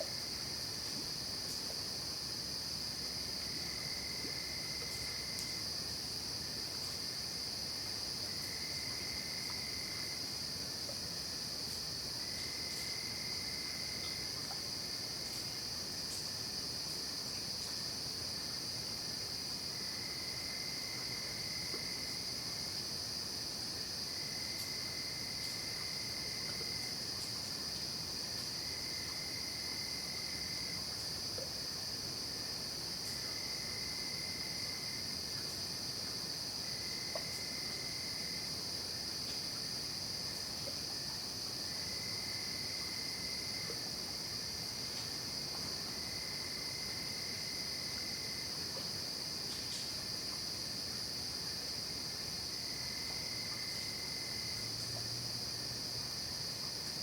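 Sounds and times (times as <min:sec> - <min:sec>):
lower insect trill: 0:00.0 - 0:57.0.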